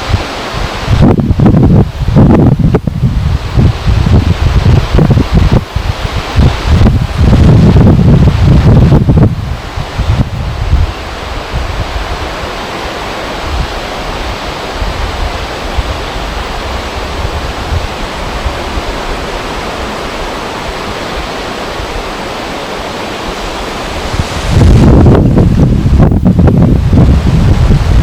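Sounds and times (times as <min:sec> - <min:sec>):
flowing river water: 0:00.0 - 0:28.0
wind: 0:00.0 - 0:28.0.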